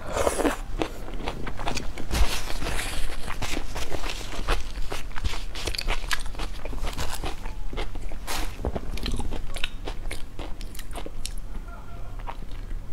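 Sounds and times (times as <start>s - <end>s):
person chewing crunchy food: 0.0s - 11.5s.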